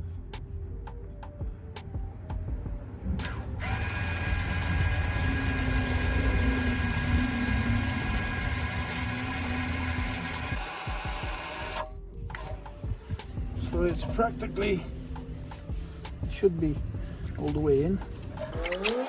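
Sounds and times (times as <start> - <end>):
brake motor whining: 3.0 - 19.0.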